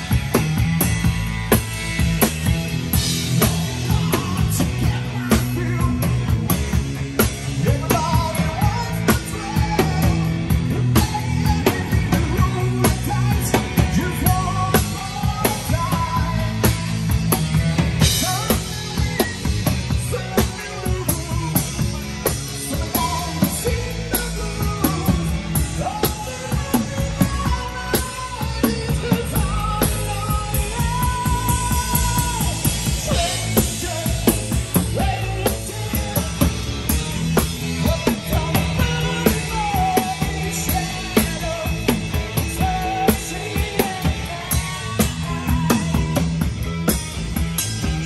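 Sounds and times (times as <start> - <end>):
bass guitar: 0.0 - 48.0
drum kit: 0.0 - 48.0
electric guitar: 0.0 - 48.0
man singing: 3.0 - 17.1, 18.0 - 46.5.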